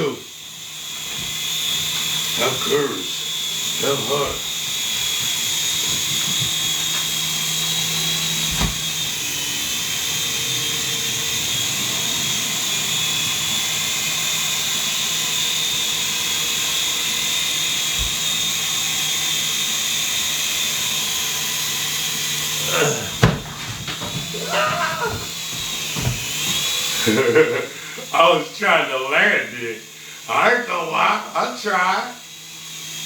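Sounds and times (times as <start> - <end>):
toy helicopter motor whine: 0.0 - 33.0.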